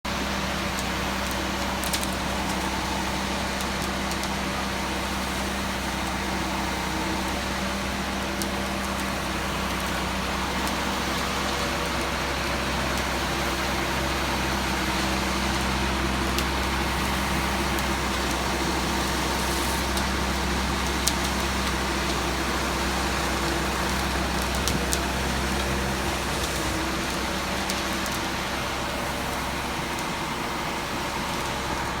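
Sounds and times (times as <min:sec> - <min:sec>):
truck engine droning: 0:00.0 - 0:32.0.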